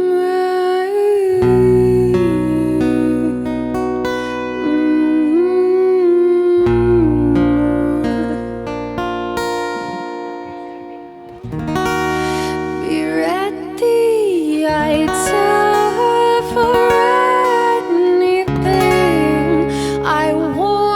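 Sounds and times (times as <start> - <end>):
strummed acoustic guitar chords: 1.4 - 20.9.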